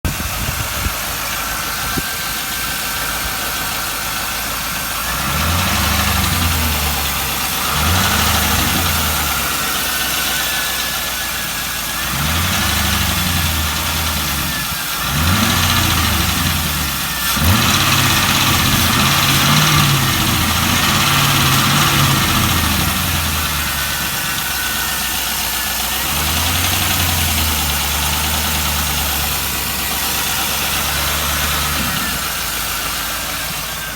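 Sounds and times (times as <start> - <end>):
car engine idling and revving: 0.0 - 33.9
engine ticking: 0.0 - 33.9.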